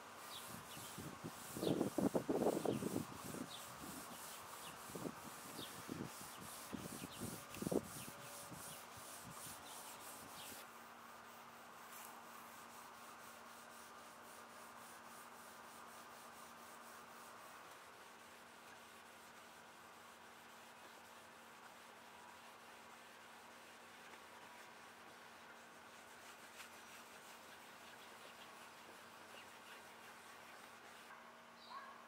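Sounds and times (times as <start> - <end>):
steel wool rubbing on wood: 0.1 - 31.1.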